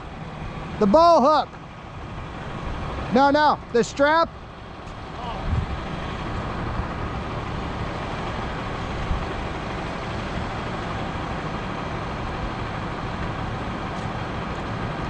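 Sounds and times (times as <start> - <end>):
truck engine running steadily: 0.0 - 15.0.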